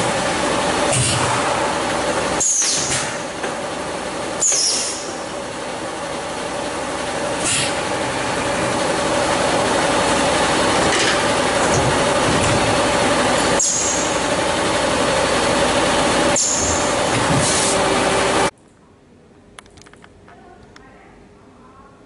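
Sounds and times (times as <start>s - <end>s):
moulding machine running: 0.0s - 18.5s.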